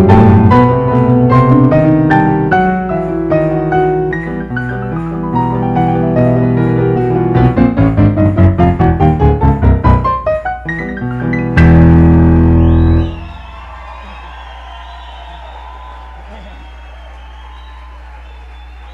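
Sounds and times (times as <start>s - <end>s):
keyboard playing worship music: 0.0s - 18.9s
piano chords: 0.0s - 18.9s.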